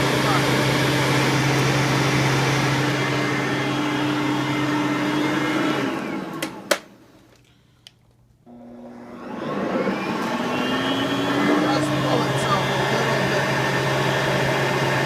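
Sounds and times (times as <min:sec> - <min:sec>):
vacuum cleaner running: 0:00.0 - 0:06.8, 0:08.5 - 0:15.0.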